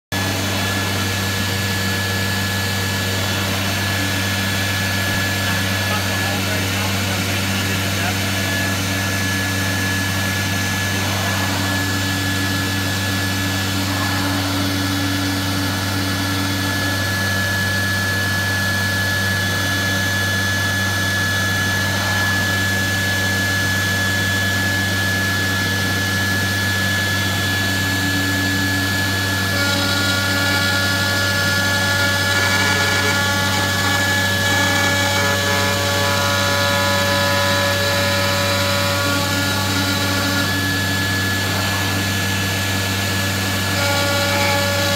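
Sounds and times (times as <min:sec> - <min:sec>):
low machine hum: 0:00.1 - 0:44.9
router spindle whine: 0:00.1 - 0:44.9.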